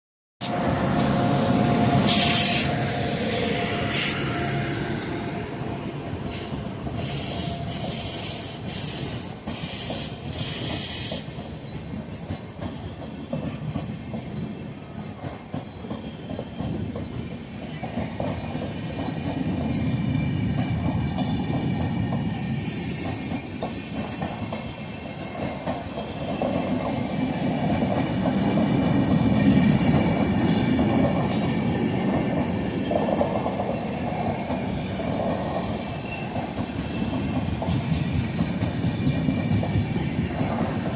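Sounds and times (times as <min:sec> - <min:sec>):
train passing at speed: 0:00.4 - 0:40.9.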